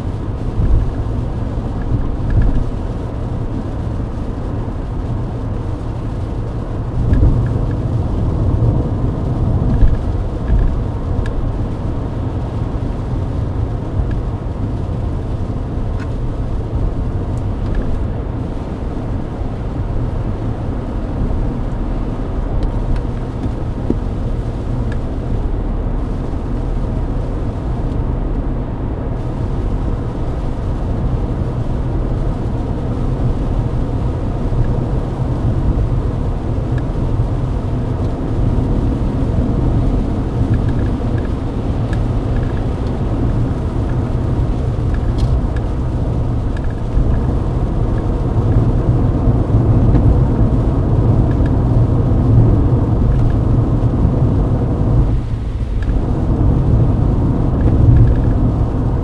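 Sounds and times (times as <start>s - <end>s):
low rumble of engine and tyres: 0.0s - 59.0s.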